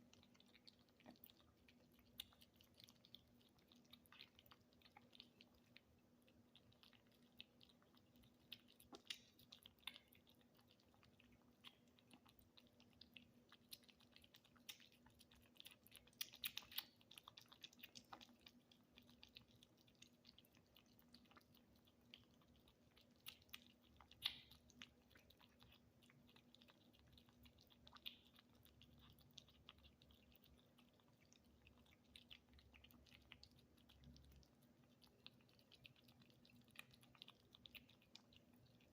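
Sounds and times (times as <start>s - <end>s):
faint steady hum: 0.0s - 38.9s
kittens chewing: 0.0s - 38.9s.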